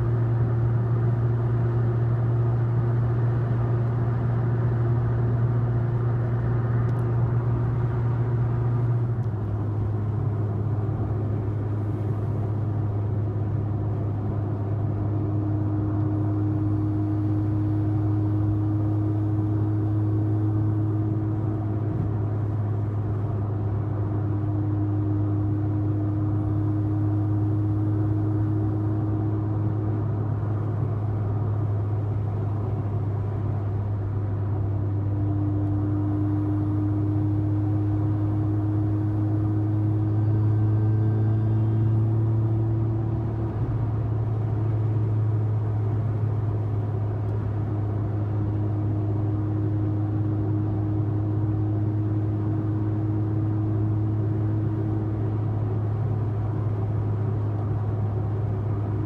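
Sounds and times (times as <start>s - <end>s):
car engine droning: 0.0s - 59.0s.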